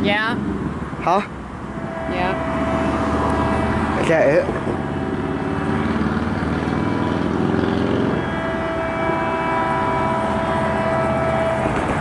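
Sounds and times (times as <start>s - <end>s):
distant locomotive air horn: 1.6s - 12.0s.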